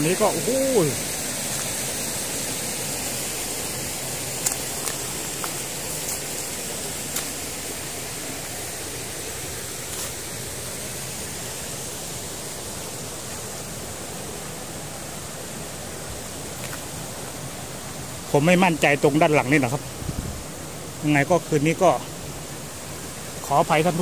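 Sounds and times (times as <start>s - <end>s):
steady forest hiss: 0.0s - 24.0s.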